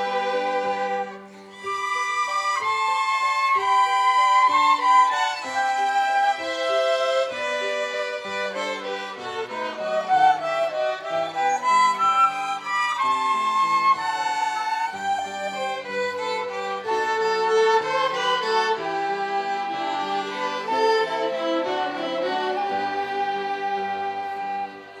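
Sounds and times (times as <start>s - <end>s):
violin ensemble melody: 0.0s - 25.0s.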